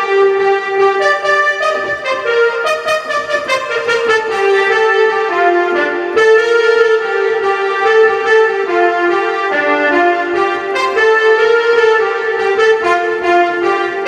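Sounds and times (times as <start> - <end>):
keyboard reedy wind melody: 0.0 - 14.0
light rhythm accompaniment: 0.0 - 14.0.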